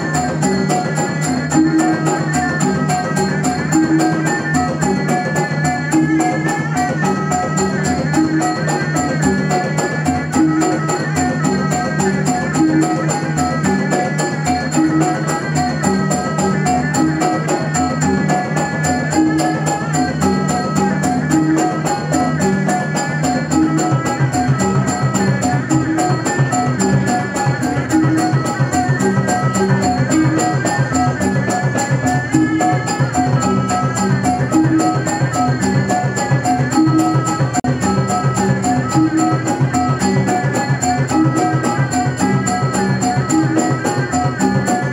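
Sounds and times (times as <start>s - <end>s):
fast percussion: 0.0s - 44.9s
melody line: 0.0s - 44.9s.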